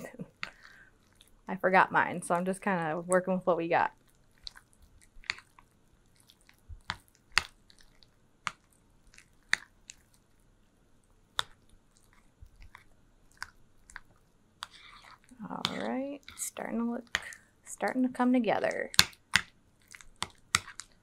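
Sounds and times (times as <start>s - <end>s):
soft squishing of dip: 0.1s - 1.5s, 2.2s - 17.6s, 18.9s - 21.0s.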